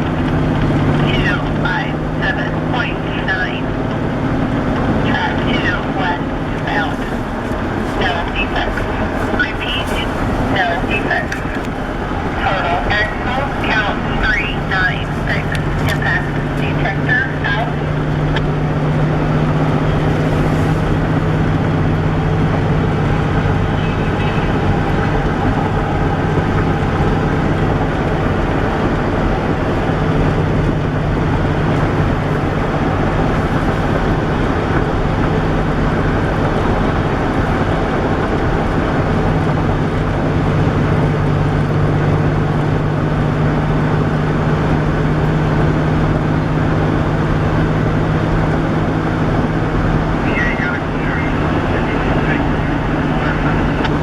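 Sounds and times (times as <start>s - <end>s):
vehicle running hum and rumble: 0.0s - 54.0s.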